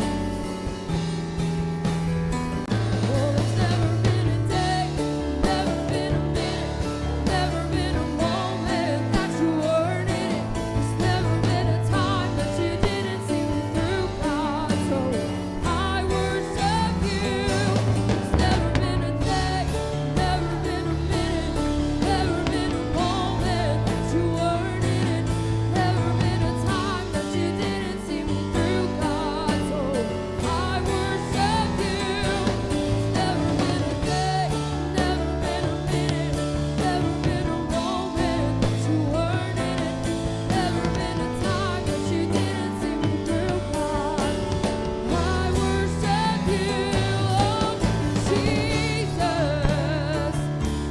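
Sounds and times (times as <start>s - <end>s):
worship band playing: 0.0s - 50.9s
people singing: 2.7s - 50.9s.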